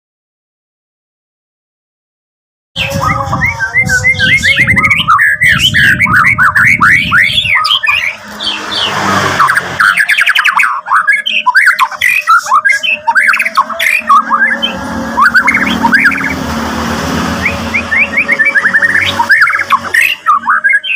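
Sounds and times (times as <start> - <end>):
songbird whistling and chattering: 2.8 - 16.4, 17.3 - 20.9.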